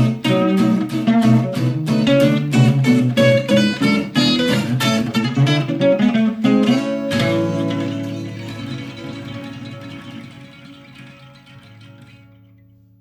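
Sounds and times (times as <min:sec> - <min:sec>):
guitar plucked and strummed: 0:00.0 - 0:13.0.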